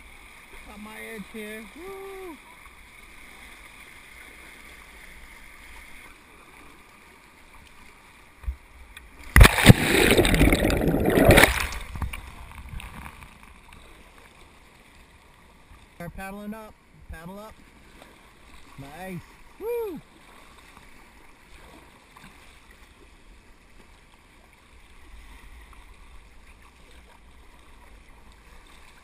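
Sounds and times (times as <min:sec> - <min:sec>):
paddle water splashing: 0:00.0 - 0:29.0
rush of moving water: 0:00.0 - 0:29.0.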